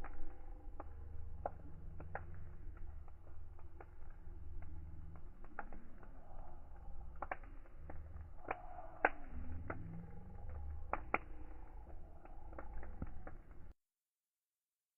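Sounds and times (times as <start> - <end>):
fire crackling in a fireplace: 0.0 - 13.8.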